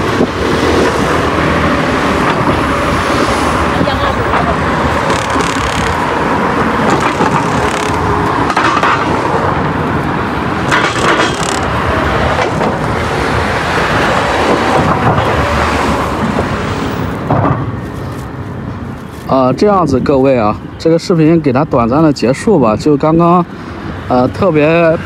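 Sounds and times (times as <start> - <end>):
road traffic: 0.0 - 25.0
vehicles passing: 0.0 - 25.0.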